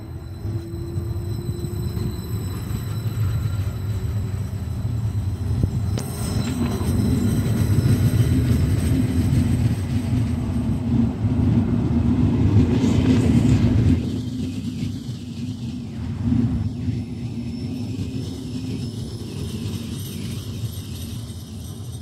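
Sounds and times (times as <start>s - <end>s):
train wheels rumbling past: 0.0s - 22.0s.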